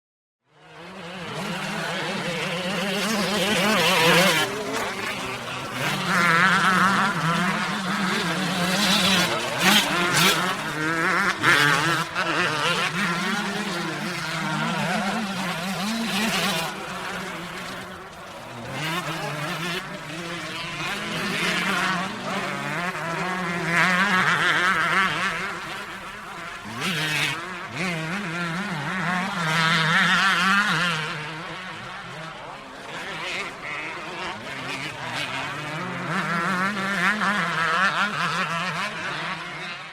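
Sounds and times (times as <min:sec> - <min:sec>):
dirt bike engines revving: 0:00.6 - 0:39.9.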